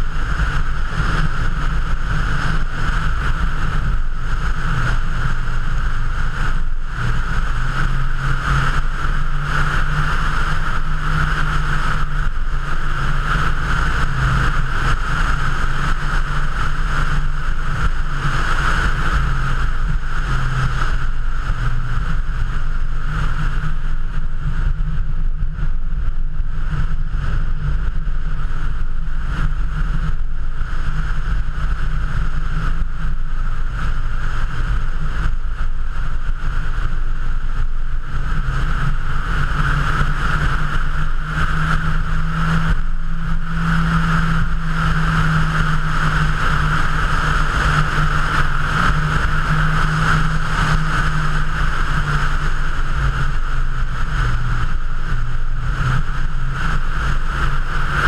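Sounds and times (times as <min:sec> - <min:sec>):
car engine running: 0:00.0 - 0:58.0
wind rush: 0:00.0 - 0:58.0.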